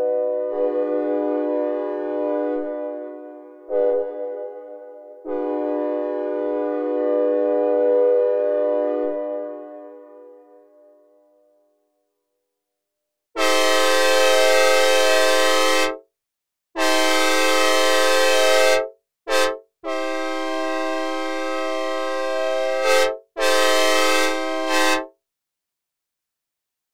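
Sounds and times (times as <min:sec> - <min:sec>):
synthesized train horn blasts: 0:00.0 - 0:11.2, 0:13.4 - 0:16.0, 0:16.8 - 0:25.1.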